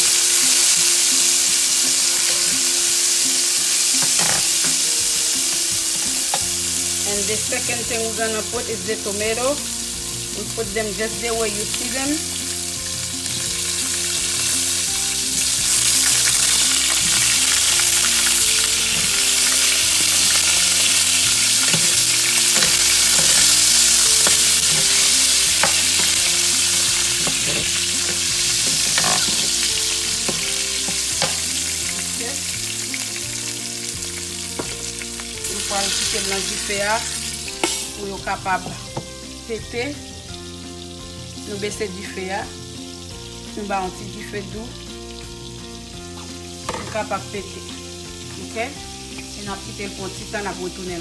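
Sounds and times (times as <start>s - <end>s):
tomatoes sizzling in oil: 0.0s - 51.0s.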